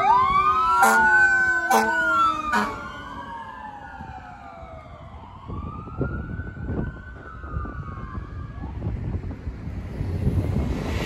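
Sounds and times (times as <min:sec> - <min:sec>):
fire engine siren wailing: 0:00.0 - 0:09.4
traffic and engine rumble: 0:00.0 - 0:11.0.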